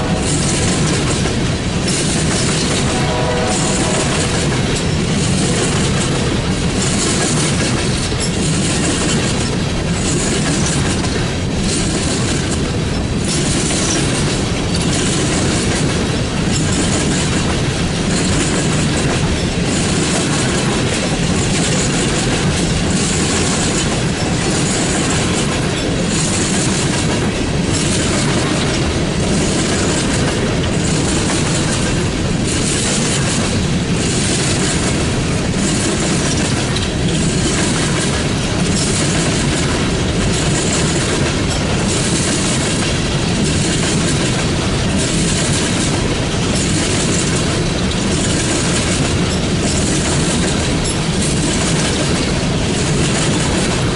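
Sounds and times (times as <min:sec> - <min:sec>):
railcars rumbling: 0:00.0 - 0:53.9
wheels clickety-clack on rail joints: 0:00.0 - 0:53.9.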